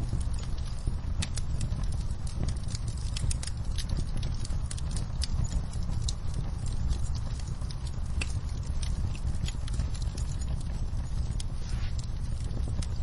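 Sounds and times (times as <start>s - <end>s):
low rumble: 0.0s - 13.0s
rain pattering on a window: 0.0s - 13.0s
wood fire crackling: 0.0s - 13.0s.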